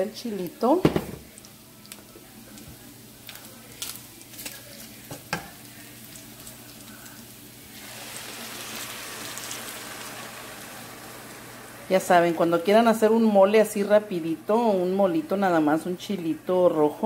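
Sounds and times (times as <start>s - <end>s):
meat sizzling in a frying pan: 0.0s - 15.7s.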